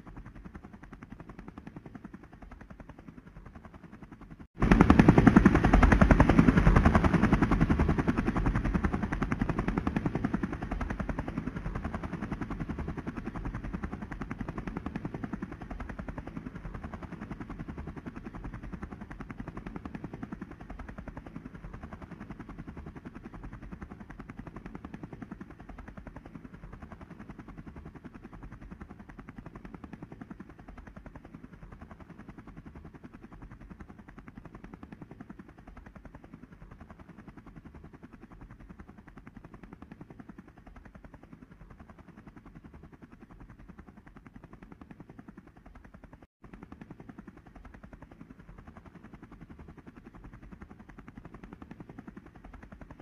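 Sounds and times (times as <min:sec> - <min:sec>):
helicopter rotor chopping: 0:00.0 - 0:53.0.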